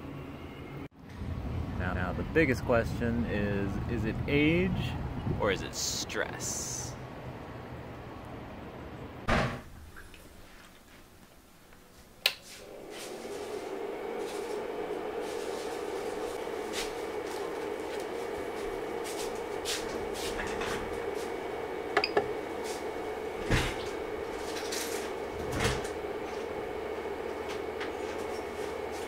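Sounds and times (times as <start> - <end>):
cooling fans humming: 0.0 - 29.0.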